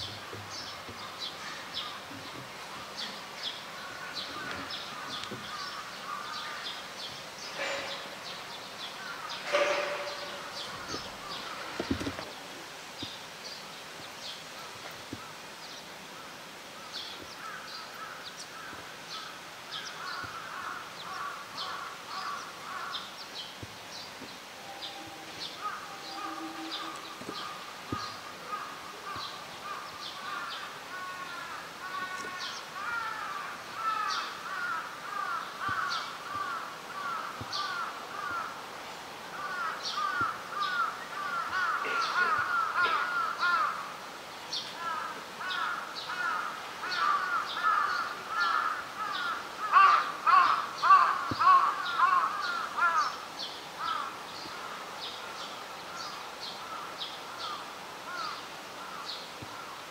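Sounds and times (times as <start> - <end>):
birds making harsh calls: 0.0 - 13.2, 16.2 - 38.7, 39.3 - 55.0.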